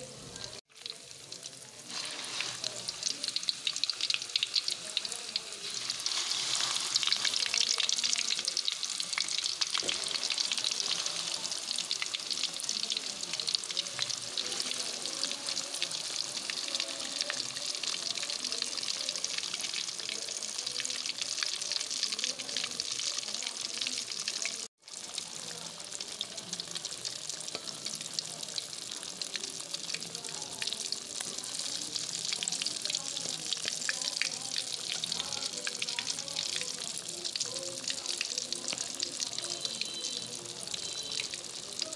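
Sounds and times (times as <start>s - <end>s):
fish sizzling in hot oil: 0.0s - 41.9s.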